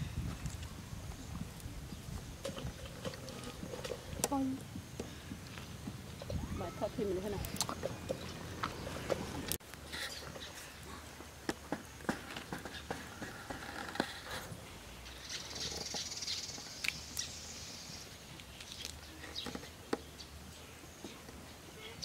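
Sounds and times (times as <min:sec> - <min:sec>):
scratchy scraping hiss: 0:02.1 - 0:22.0.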